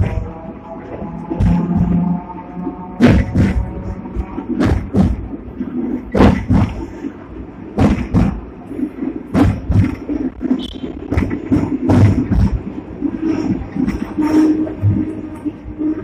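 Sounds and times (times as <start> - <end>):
tram knocks and clatters: 0.0 - 16.0
tram low rumble: 0.0 - 16.0.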